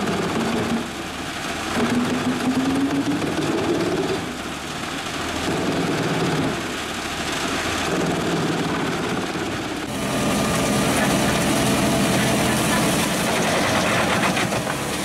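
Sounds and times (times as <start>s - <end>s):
wood chipper running under load: 0.0s - 15.0s.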